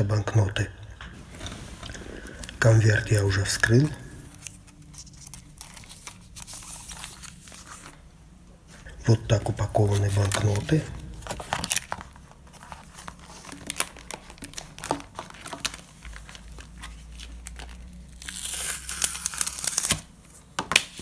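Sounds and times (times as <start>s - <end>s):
plastic sleeves crinkling: 1.0s - 8.1s, 8.8s - 21.0s.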